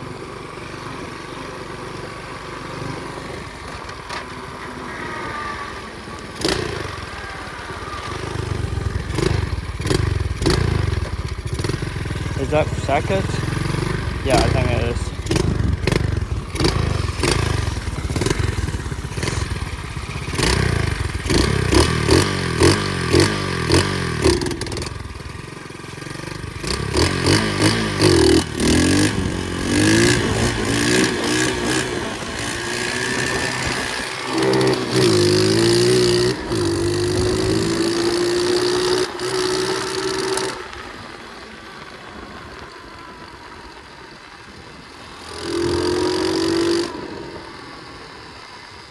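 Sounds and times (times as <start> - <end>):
pit bike engine revving: 2.4 - 48.9.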